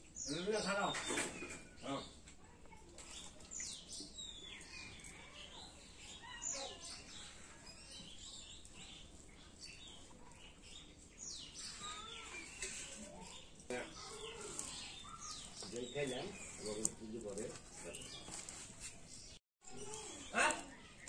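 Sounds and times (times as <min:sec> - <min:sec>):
birds chirping and calling: 0:00.0 - 0:02.4, 0:03.0 - 0:21.0.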